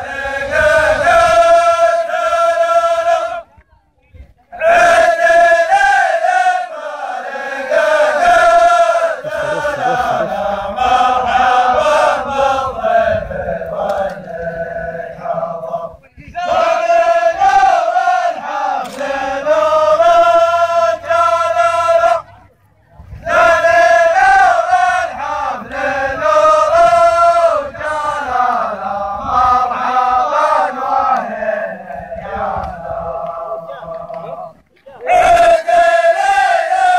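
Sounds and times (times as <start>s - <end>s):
men chanting in unison: 0.0s - 3.4s, 4.5s - 22.4s, 23.1s - 36.9s.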